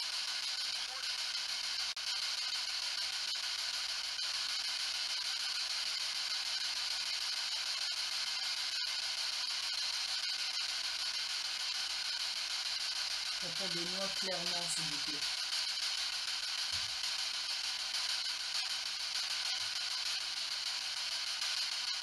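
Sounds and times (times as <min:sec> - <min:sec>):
radio static hiss: 0:00.0 - 0:09.0, 0:09.6 - 0:22.0.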